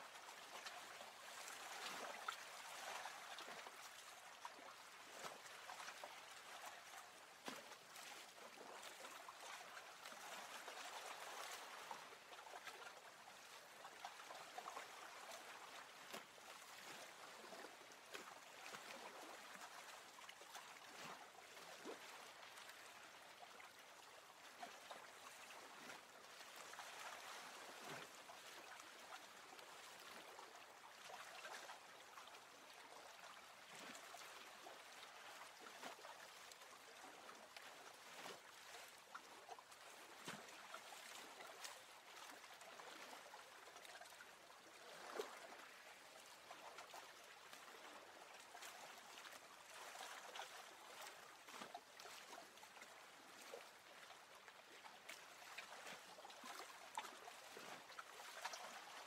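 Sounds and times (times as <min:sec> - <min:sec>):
water lapping and trickling: 0:00.0 - 0:59.0.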